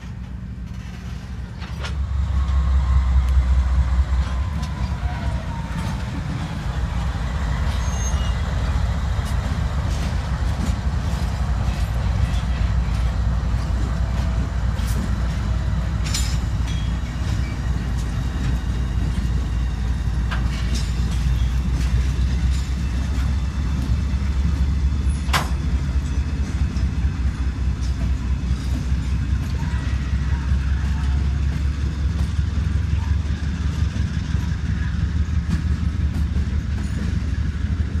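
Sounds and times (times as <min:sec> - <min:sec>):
diesel locomotive engines rumbling: 0:00.0 - 0:38.0.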